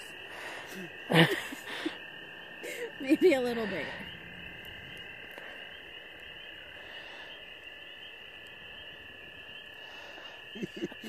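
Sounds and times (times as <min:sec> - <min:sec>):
frogs trilling: 0:00.0 - 0:11.0.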